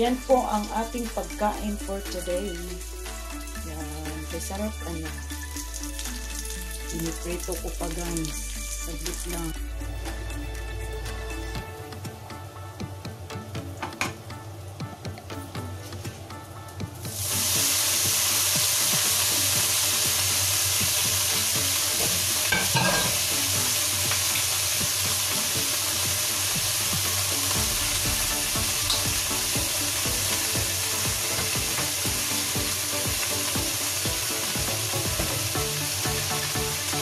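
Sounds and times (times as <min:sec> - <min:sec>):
greens sizzling in hot oil: 0:00.0 - 0:11.6, 0:17.0 - 0:37.0.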